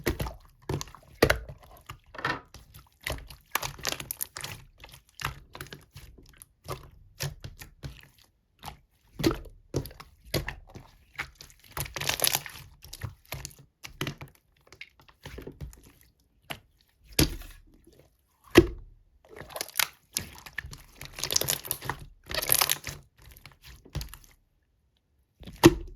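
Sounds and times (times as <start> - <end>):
slime squishing: 0.0 - 24.8, 25.4 - 25.9.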